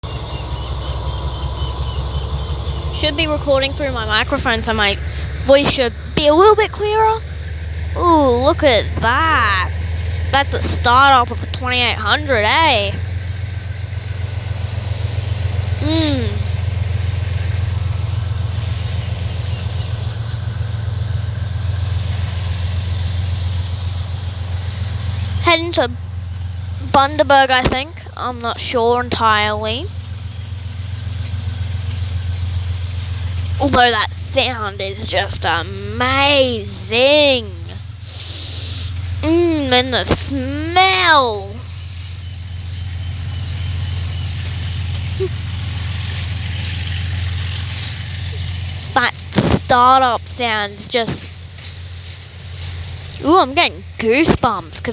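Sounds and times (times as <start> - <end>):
diesel locomotive engine running: 0.0 - 54.9.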